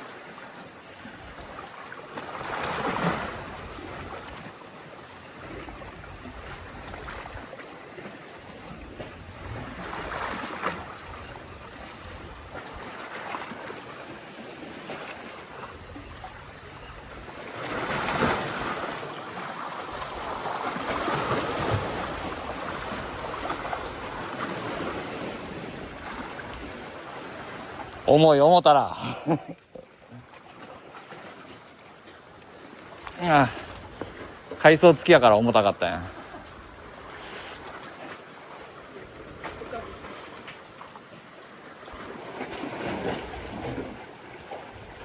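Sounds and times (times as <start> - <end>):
waves splashing on concrete blocks: 0.0 - 29.4, 30.3 - 45.0
wind: 0.0 - 45.0.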